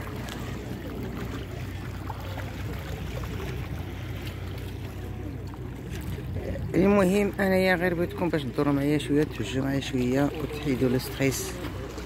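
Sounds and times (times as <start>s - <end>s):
water wash at the shore: 0.0s - 12.0s.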